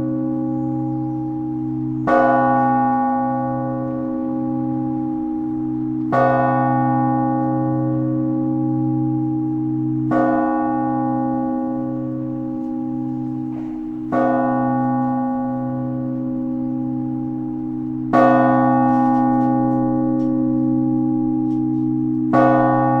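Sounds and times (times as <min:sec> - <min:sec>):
large church bell ringing: 0:00.0 - 0:23.0.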